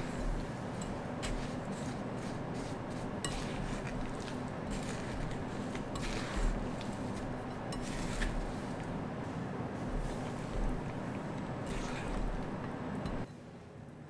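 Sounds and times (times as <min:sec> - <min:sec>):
spatula scraping and stirring fruit: 0:00.0 - 0:13.3.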